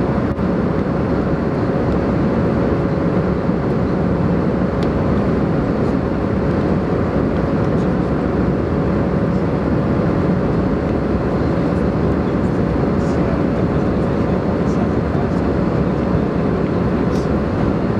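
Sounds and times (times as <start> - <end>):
airplane cabin noise: 0.0 - 17.9.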